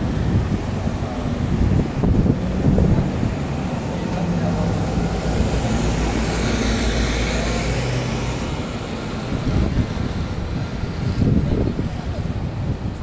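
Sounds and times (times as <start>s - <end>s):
bus diesel engine droning: 0.0s - 13.0s
traffic hum: 0.0s - 13.0s.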